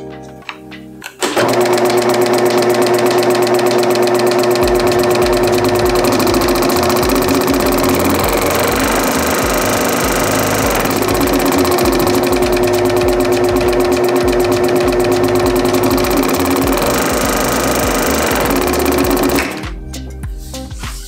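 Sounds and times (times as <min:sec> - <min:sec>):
motor hum: 0:01.4 - 0:19.7.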